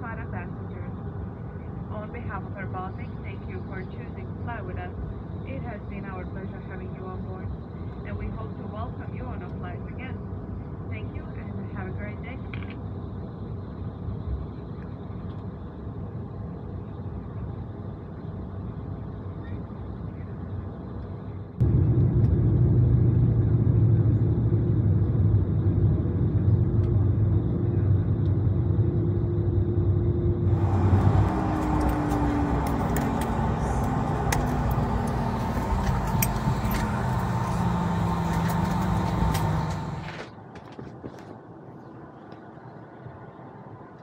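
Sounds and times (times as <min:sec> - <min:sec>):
loud low engine rumble: 0:00.0 - 0:40.3.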